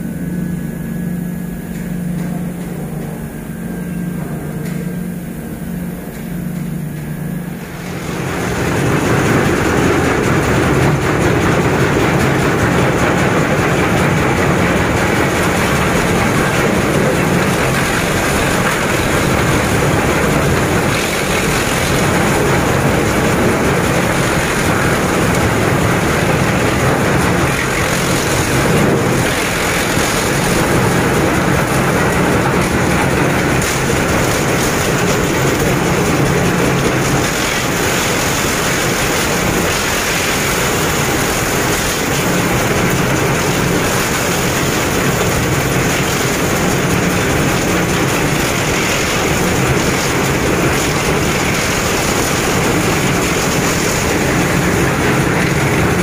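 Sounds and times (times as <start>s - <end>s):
wood crusher grinding: 5.9s - 56.0s.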